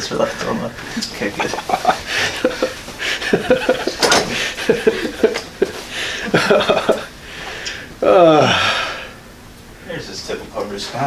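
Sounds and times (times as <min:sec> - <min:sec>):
quiet talking and chuckling: 0:00.0 - 0:08.9.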